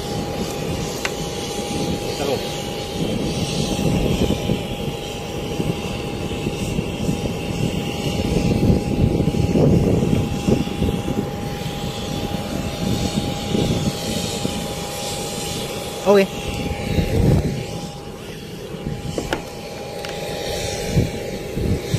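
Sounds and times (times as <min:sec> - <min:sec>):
aircraft engine drone: 0:00.0 - 0:21.9
high engine whine: 0:00.0 - 0:21.9.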